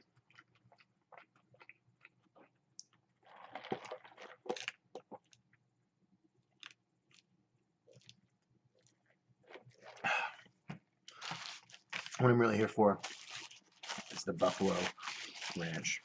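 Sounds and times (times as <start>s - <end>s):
person chewing fries: 0.0s - 5.4s, 6.5s - 12.2s, 13.0s - 15.8s.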